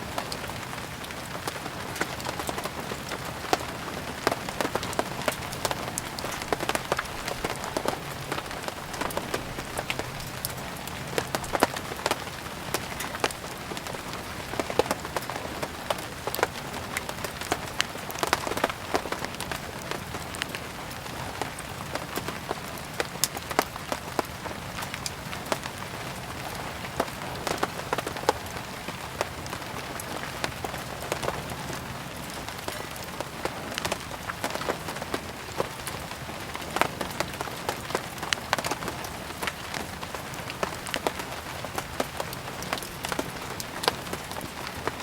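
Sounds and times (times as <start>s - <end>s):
rain hissing: 0.0s - 45.0s
wood fire crackling: 0.0s - 45.0s.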